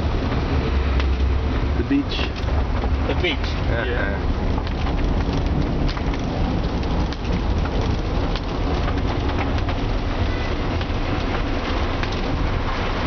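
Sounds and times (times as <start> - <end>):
engine and tyre rumble: 0.0 - 13.0
heavy rain on car roof: 0.0 - 13.0.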